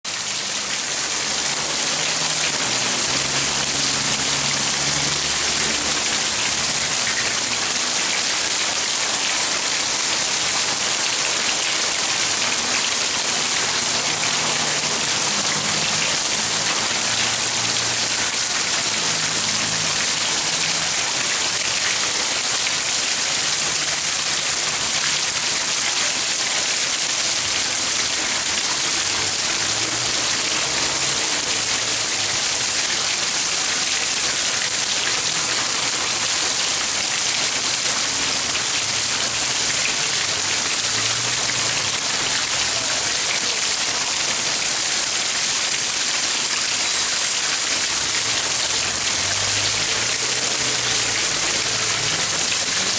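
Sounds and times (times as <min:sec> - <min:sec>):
fountain water splashing: 0:00.0 - 0:52.9.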